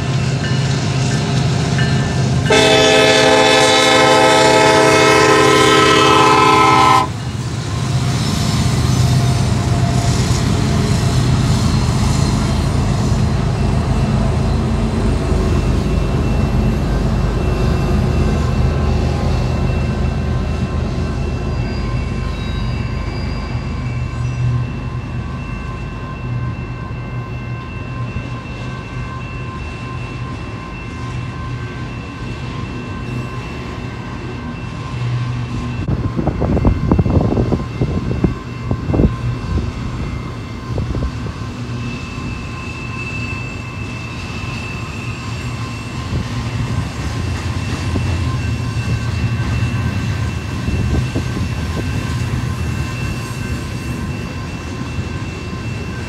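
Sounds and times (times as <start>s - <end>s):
diesel locomotives droning: 0.0s - 56.0s
high tones from wheels on rail: 0.0s - 56.0s.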